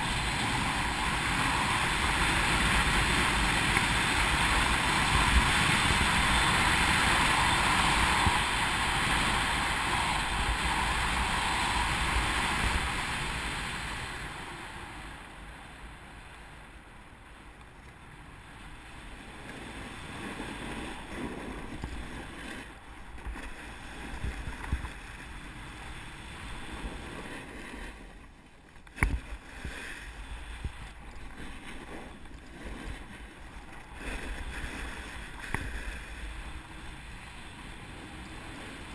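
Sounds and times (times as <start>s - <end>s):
snowboard scraping over snow: 0.0s - 16.6s, 18.1s - 38.9s
wind rushing over camera: 0.0s - 38.9s.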